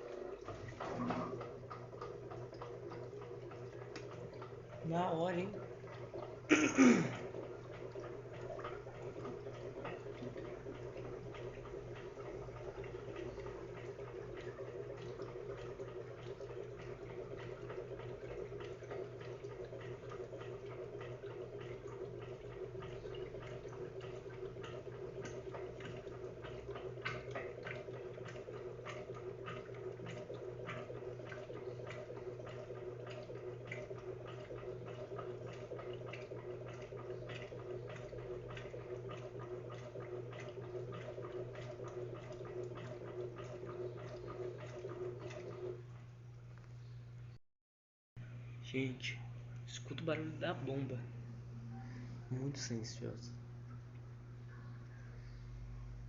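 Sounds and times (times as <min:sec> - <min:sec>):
water sloshing in drum: 0:00.0 - 0:46.5
washing machine motor hum: 0:00.0 - 0:47.4, 0:48.2 - 0:56.0.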